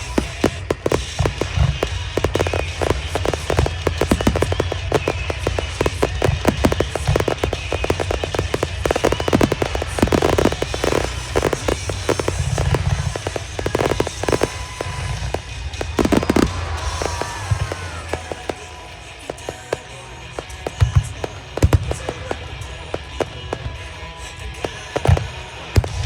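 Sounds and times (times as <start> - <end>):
fireworks bursting and crackling: 0.0 - 26.0
music: 0.0 - 26.0.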